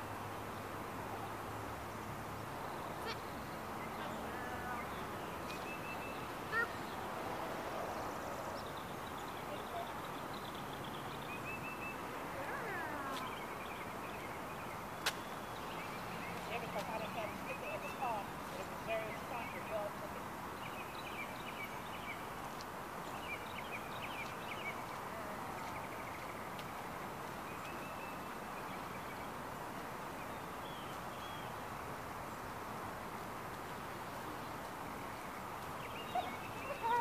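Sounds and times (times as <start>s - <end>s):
outdoor background noise: 0.0s - 37.0s.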